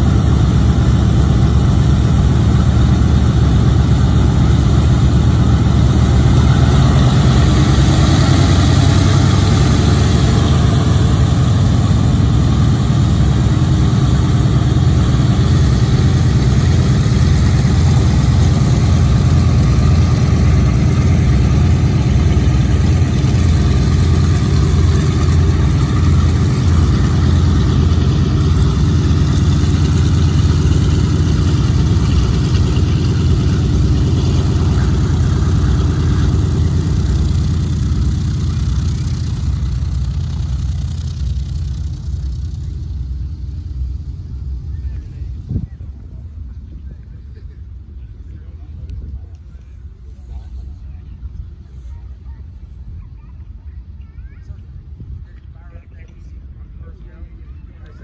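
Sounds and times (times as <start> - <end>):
radial aircraft engines droning: 0.0 - 58.0.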